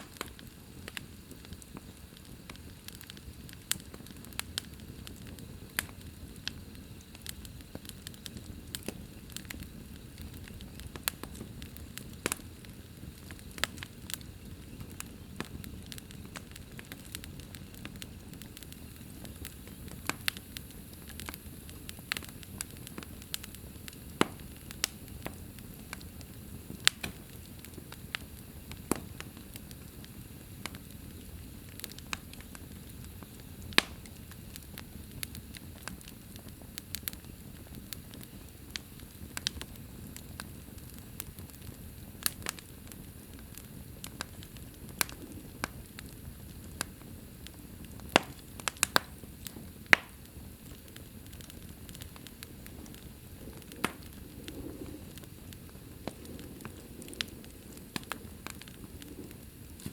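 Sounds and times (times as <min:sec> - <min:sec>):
sharp pops of burning wood: 0:00.0 - 0:59.9
wood fire crackling: 0:00.0 - 0:59.9.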